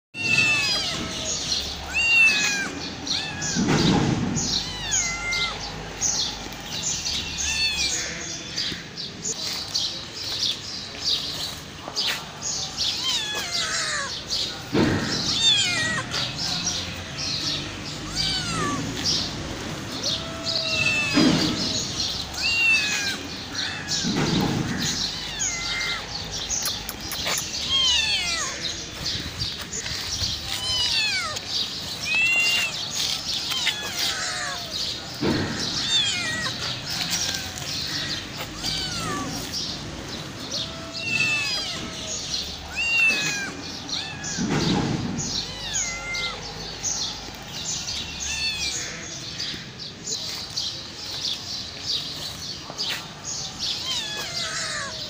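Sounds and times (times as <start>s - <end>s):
cat and kittens meowing: 0.1s - 9.6s, 10.2s - 55.0s.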